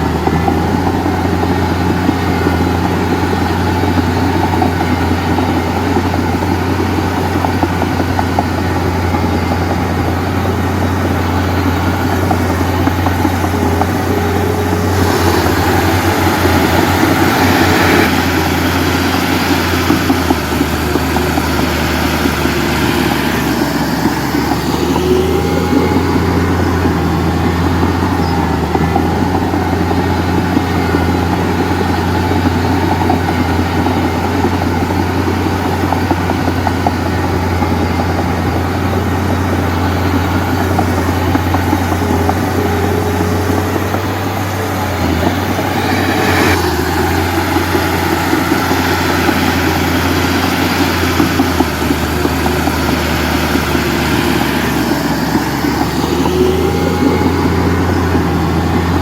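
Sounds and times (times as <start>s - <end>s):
heavy diesel engine running: 0.0s - 59.0s
rising whine: 0.0s - 59.0s.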